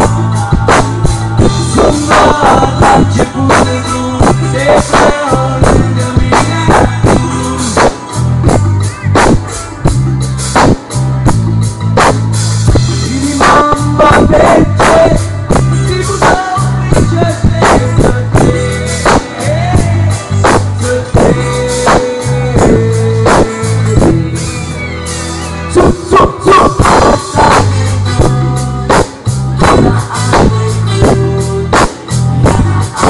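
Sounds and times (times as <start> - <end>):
man singing: 0.0 - 10.2, 12.8 - 33.0
live pop band playing: 0.0 - 33.0.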